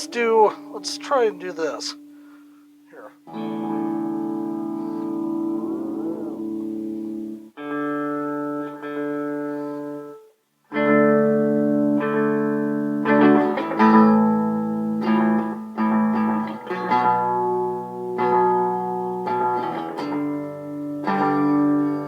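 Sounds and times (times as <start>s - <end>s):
electric guitar chords with delay: 3.2s - 22.0s.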